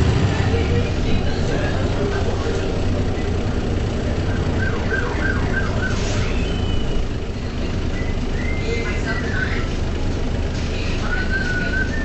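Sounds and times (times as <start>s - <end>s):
bus diesel engine drone: 0.0s - 12.0s
road noise: 0.0s - 12.0s.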